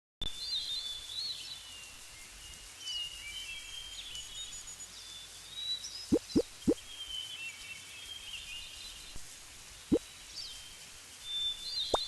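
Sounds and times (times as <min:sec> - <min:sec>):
faint steady hiss: 0:00.2 - 0:12.0.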